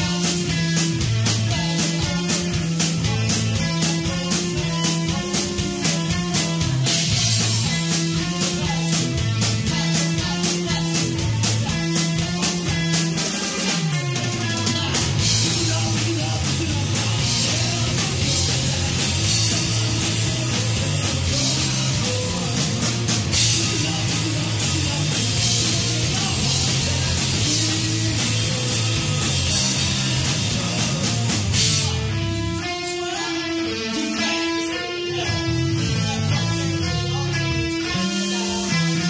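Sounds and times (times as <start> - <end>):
bass guitar: 0.0 - 39.0
drum kit with cymbals: 0.0 - 39.0
electric guitar: 0.0 - 39.0.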